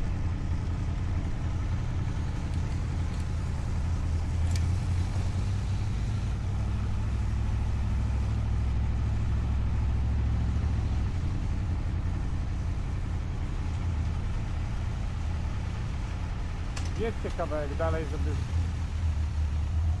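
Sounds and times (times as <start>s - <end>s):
vehicle engine and road drone: 0.0s - 20.0s.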